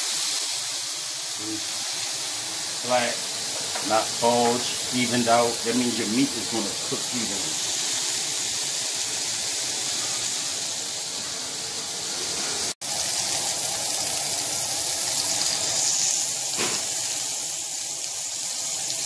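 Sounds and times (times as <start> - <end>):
patties sizzling in hot oil: 0.0 - 19.0.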